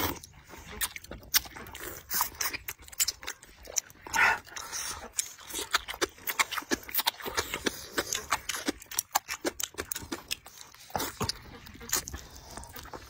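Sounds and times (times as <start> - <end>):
chewing: 0.0 - 13.0
lip smacks: 0.0 - 13.0.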